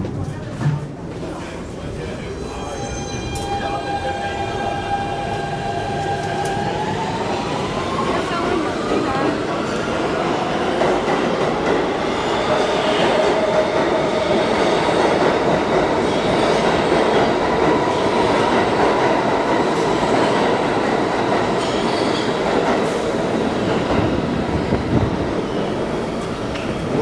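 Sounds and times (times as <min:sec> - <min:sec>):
subway train rumble and rattle: 0:00.0 - 0:27.0.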